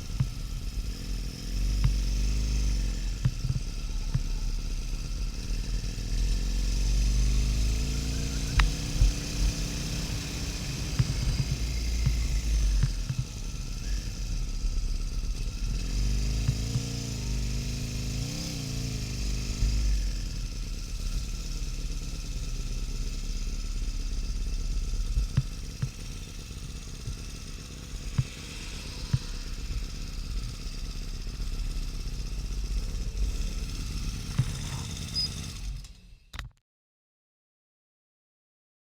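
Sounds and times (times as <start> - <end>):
motorcycle engine running: 0.0 - 36.5.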